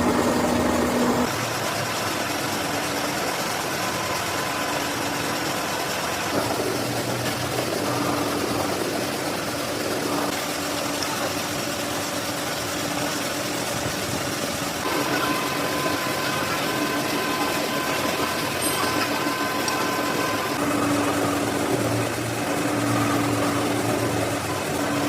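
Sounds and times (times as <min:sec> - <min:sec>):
high steady whine: 0:00.0 - 0:25.0
machine tool humming: 0:00.0 - 0:25.0.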